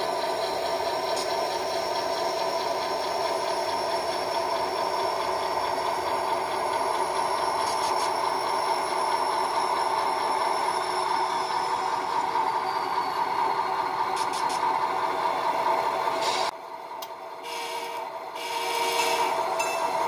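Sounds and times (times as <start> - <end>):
diesel engine sound from small speaker: 0.0 - 20.0.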